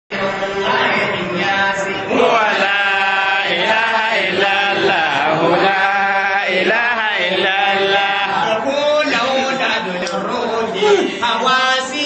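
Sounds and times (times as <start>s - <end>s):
men chanting: 0.1s - 12.0s.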